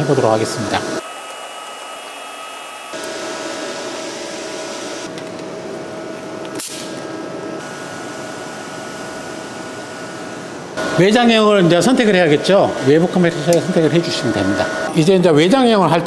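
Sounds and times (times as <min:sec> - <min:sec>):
plasma cutter whirring hum: 0:00.0 - 0:15.7.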